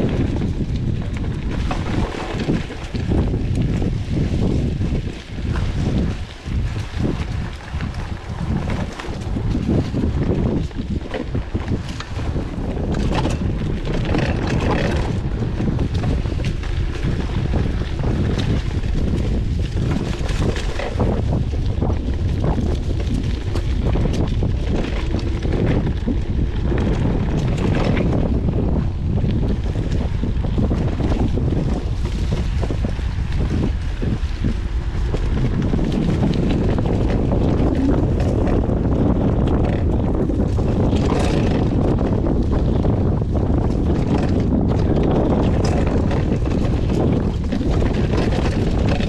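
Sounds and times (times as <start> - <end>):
bike knocking and rattling: 0.0 - 49.0
low rumble: 0.0 - 49.0
wind rushing over microphone: 0.0 - 49.0.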